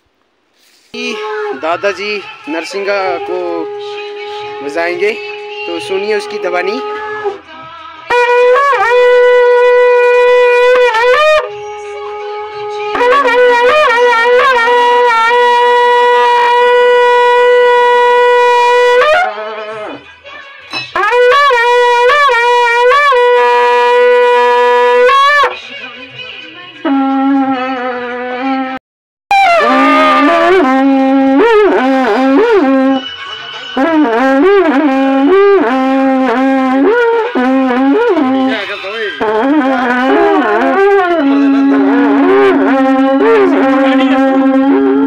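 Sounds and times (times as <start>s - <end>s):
long horn blasts: 1.0s - 7.5s, 8.1s - 20.0s, 20.8s - 25.6s, 26.8s - 33.1s, 33.8s - 45.0s.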